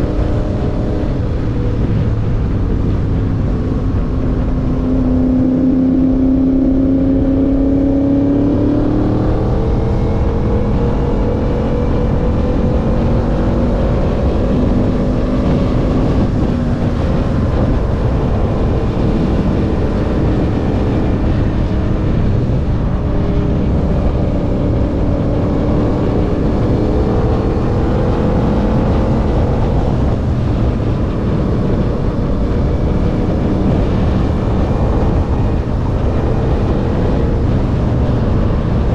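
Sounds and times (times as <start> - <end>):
engine accelerating: 0.0 - 38.9
wind rush on microphone: 0.0 - 38.9.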